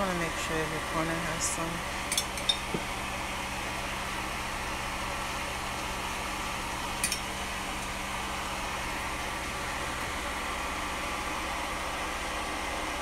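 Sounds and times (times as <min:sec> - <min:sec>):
fan hum and hiss: 0:00.0 - 0:13.0.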